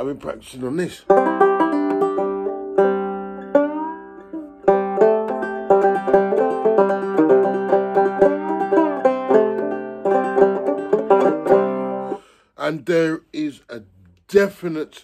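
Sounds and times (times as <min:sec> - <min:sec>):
fretless banjo sliding notes: 0:00.0 - 0:13.1.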